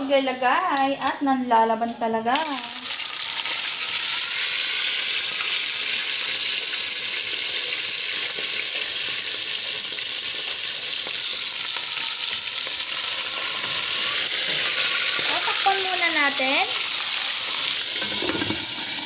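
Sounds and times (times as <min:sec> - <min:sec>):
fish sizzling in hot oil: 0:02.4 - 0:19.0.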